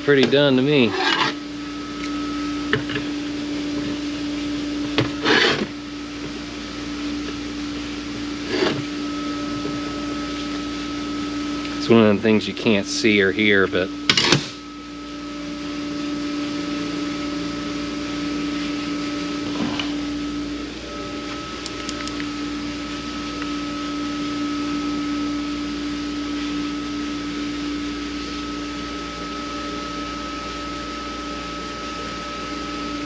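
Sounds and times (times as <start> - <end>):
machine humming: 0.0 - 33.0.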